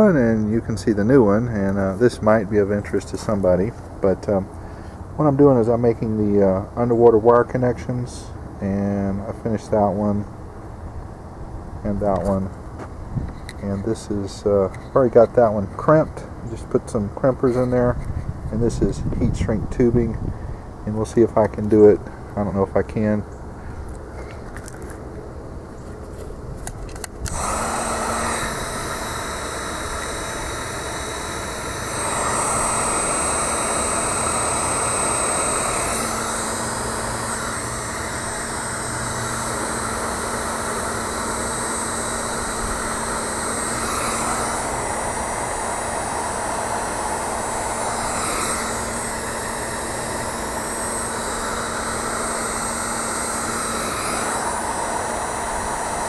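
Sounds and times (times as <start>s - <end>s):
heat gun blowing with hum and whine: 0.0s - 25.0s, 26.2s - 56.0s.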